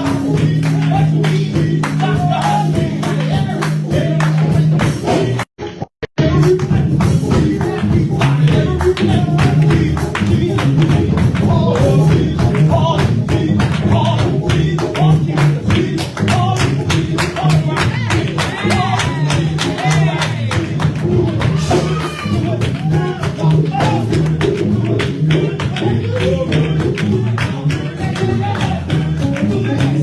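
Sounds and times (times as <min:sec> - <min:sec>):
band playing with driving beat: 0:00.0 - 0:05.5, 0:06.2 - 0:30.0
voices singing: 0:00.0 - 0:05.5, 0:06.2 - 0:30.0.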